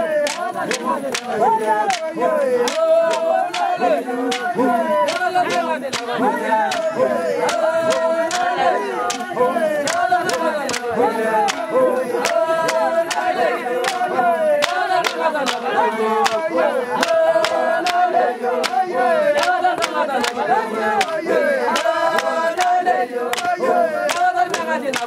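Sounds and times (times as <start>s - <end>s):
sharp hand claps: 0.0s - 20.4s, 21.0s - 25.0s
group singing without instruments: 0.0s - 25.0s.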